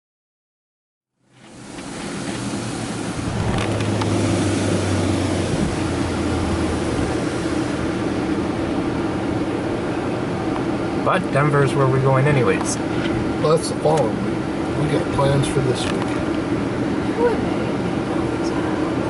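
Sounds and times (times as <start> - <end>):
car wash machinery rushing: 1.3 - 19.0.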